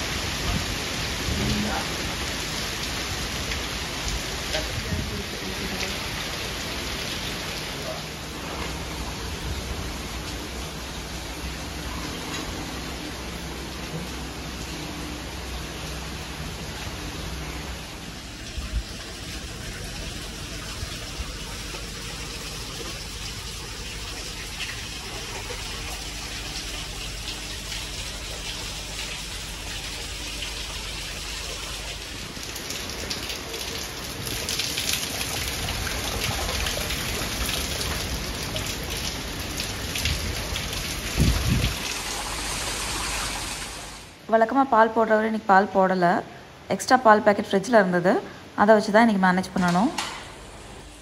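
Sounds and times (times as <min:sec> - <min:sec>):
heavy rain falling: 0:00.0 - 0:44.5.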